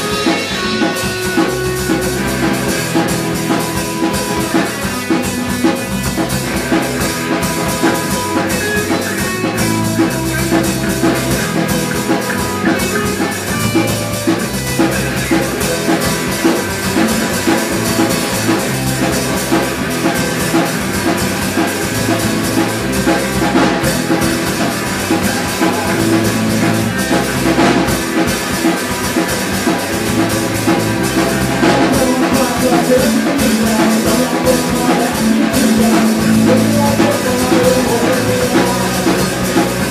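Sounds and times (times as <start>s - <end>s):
drums keeping a steady beat: 0.0s - 39.9s
live rock band playing: 0.0s - 39.9s.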